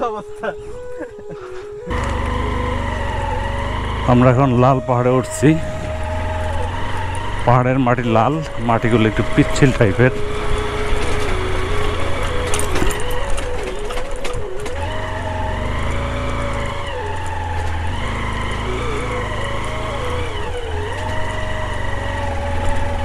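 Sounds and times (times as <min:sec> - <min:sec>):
motorcycle engine revving: 0:01.9 - 0:23.0.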